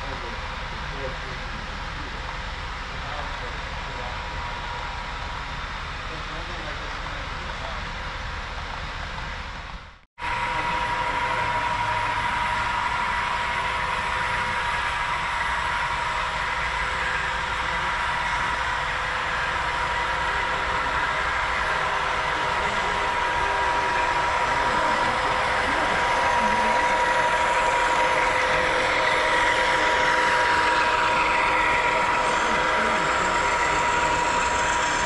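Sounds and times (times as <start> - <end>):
model locomotive engine drone: 0.0 - 35.0.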